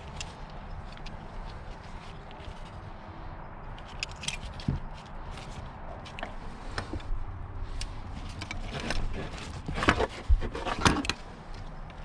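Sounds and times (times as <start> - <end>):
rustling: 0.0 - 7.0, 7.7 - 12.0.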